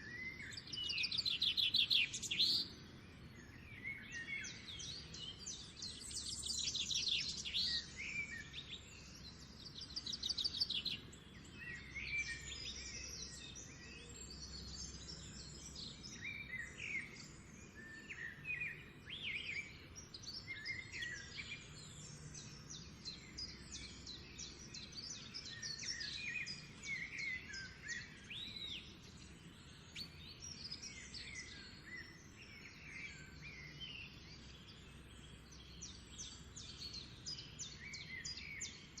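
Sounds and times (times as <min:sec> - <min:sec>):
songbirds singing and chirping: 0:00.0 - 0:39.0.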